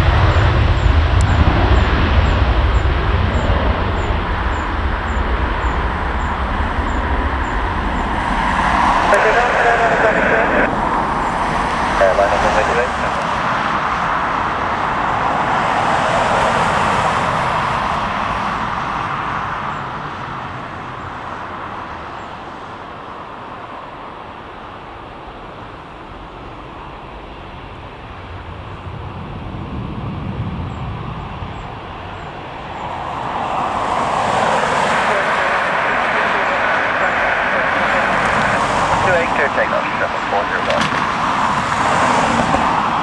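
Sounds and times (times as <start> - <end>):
jet engine noise: 0.0 - 43.0.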